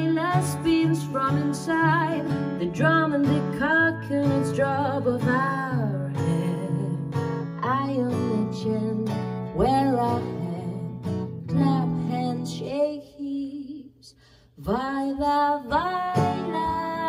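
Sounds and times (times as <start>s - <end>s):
acoustic guitar strumming: 0.0s - 12.8s, 15.8s - 17.0s
woman singing: 0.0s - 17.0s.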